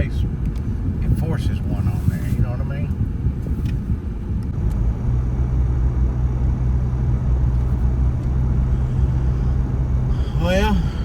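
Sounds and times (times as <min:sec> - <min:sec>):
engine and road noise in cab: 0:00.0 - 0:11.0.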